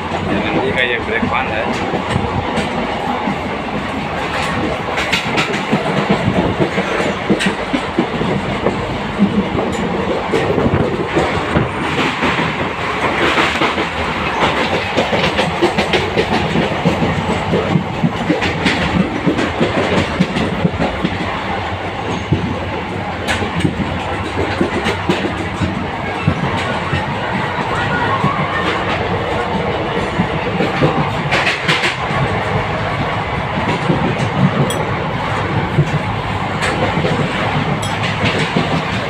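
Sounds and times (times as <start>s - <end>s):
train running rumble: 0.0s - 39.0s
train wheels clattering over joints: 0.0s - 39.0s.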